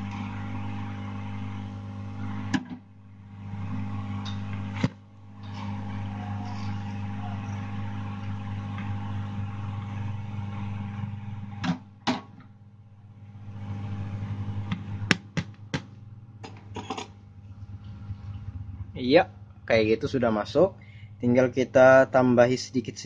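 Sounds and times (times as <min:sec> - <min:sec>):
hot-air blower humming and hissing: 0:00.0 - 0:23.0.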